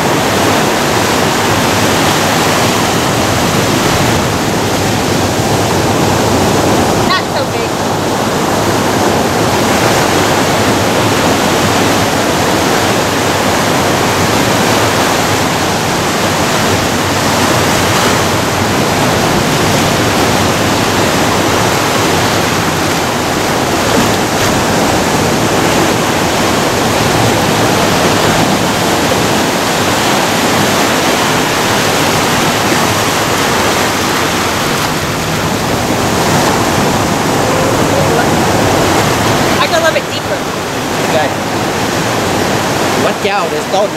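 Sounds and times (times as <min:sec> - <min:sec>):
surf breaking over rocks: 0:00.0 - 0:43.9.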